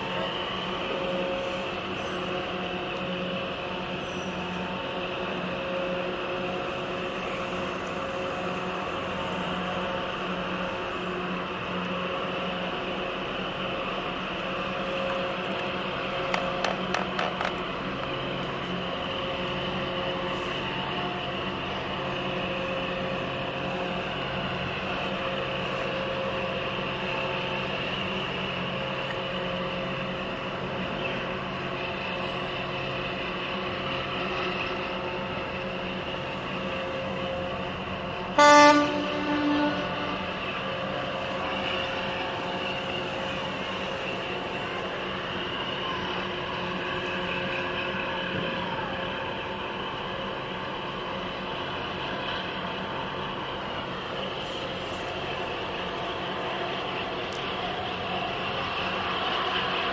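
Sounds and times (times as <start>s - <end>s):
boat diesel engine droning: 0.0s - 59.9s.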